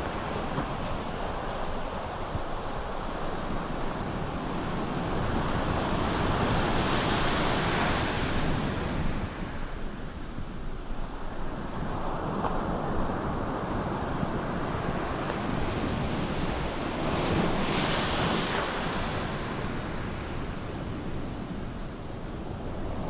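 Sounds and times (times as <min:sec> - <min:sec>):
ocean surf rushing: 0:00.0 - 0:23.0.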